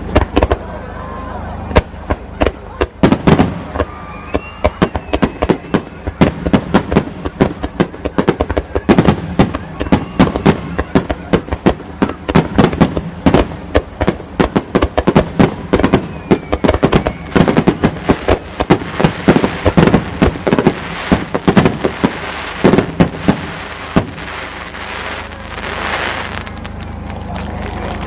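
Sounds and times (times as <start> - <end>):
fireworks bursting with booms: 0.0 - 26.9.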